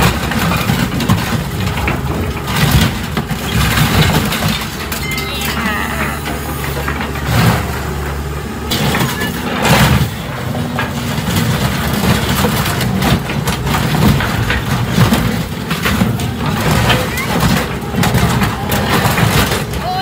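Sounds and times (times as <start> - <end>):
excavator diesel engine: 0.0 - 20.0
metal crunching and cracking: 0.0 - 20.0.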